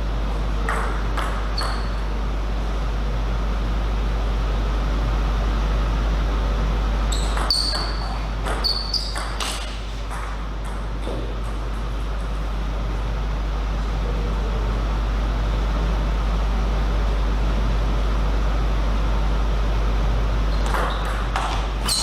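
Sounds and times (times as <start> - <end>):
steady hall hum: 0.0 - 22.0.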